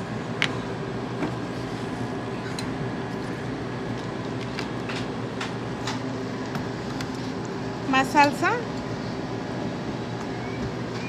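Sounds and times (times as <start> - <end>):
kitchen machinery hum: 0.0 - 11.0.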